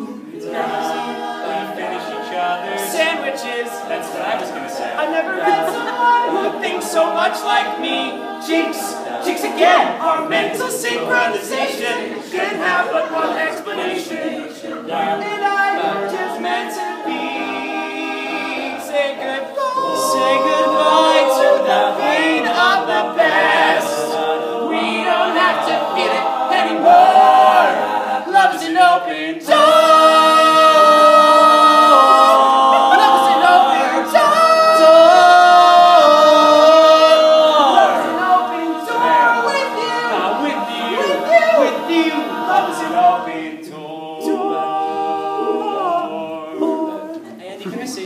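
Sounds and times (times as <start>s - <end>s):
male a cappella group singing: 0.0s - 48.0s.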